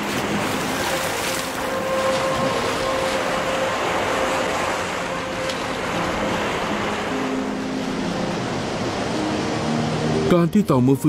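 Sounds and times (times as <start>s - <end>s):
sea surf breaking on beach: 0.0s - 10.4s.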